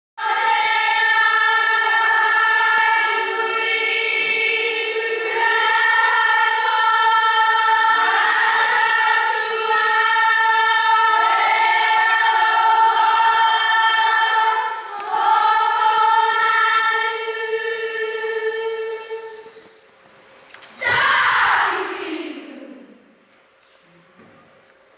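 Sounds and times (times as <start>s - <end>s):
children singing in unison: 0.2s - 19.5s, 20.8s - 22.8s.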